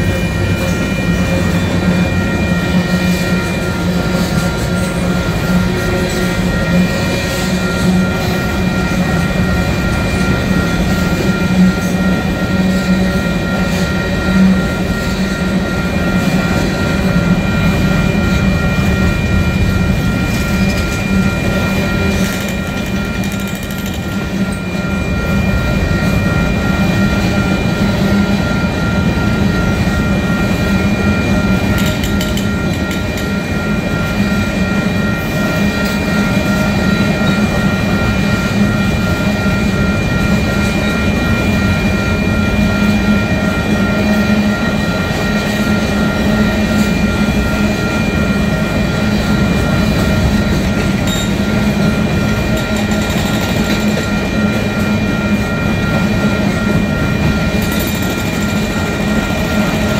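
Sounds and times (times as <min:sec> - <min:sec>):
thin steady whine: 0:00.0 - 0:59.9
train wheels rumbling on rail: 0:00.0 - 0:59.9.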